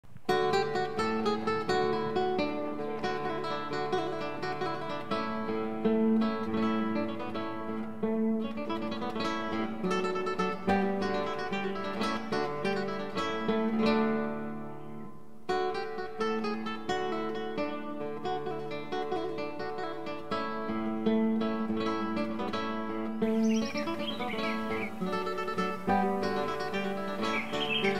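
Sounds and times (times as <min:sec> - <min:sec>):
acoustic guitar music: 0:00.1 - 0:27.9.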